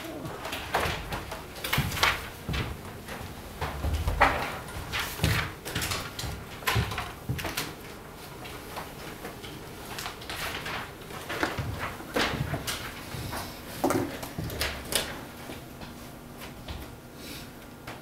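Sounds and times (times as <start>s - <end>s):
knocks and rustles: 0.0s - 17.0s.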